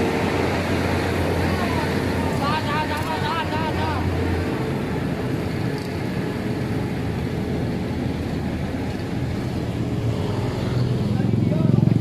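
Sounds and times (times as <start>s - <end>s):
heavy vehicle engine rumbling: 0.0s - 12.0s.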